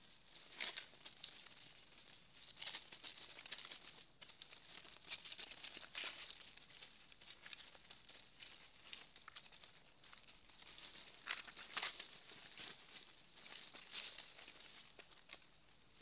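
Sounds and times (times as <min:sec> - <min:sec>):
dry leaves crackling and rustling: 0:00.0 - 0:16.0
leaf crunches: 0:02.5 - 0:15.5.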